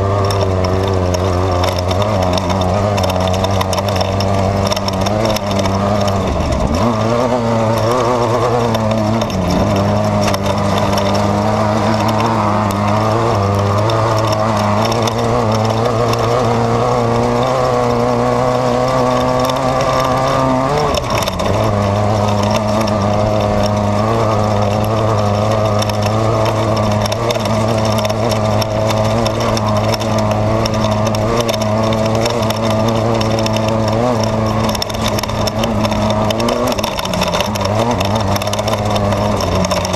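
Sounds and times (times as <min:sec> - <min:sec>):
chassis knocks and rattles: 0:00.0 - 0:39.9
race car engine revving: 0:00.0 - 0:39.9.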